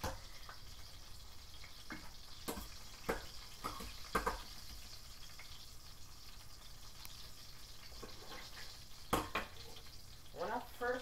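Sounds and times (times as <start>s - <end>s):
fish frying in hot oil: 0.0s - 11.0s
oil crackling and popping: 0.0s - 11.0s.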